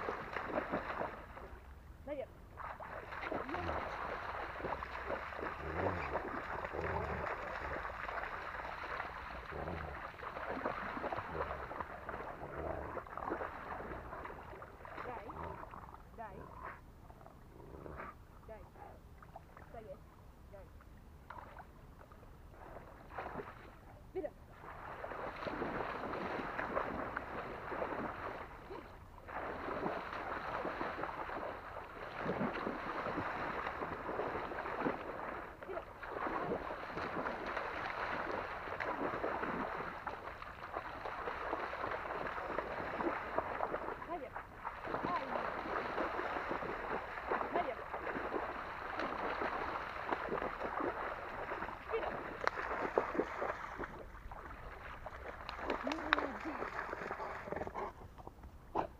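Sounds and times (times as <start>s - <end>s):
water splashing and sloshing: 0.0s - 58.9s.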